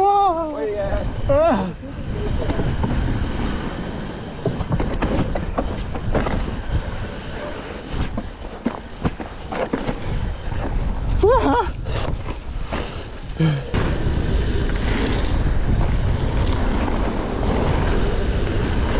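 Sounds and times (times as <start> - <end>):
bike rattling: 0.0 - 18.9
wind rumble on microphone: 0.0 - 18.9
bike tyres clattering on wooden planks: 2.4 - 18.9.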